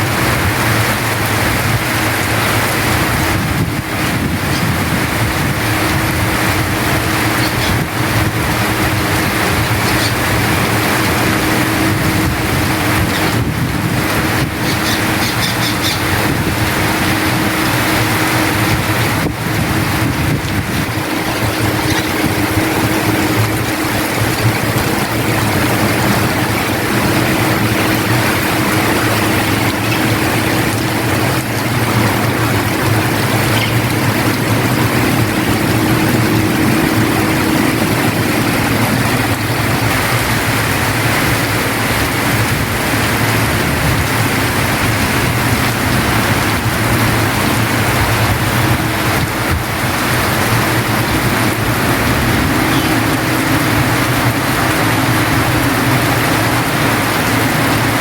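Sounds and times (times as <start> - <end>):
heavy rain hissing: 0.0 - 58.0
low steady hum: 0.0 - 58.0.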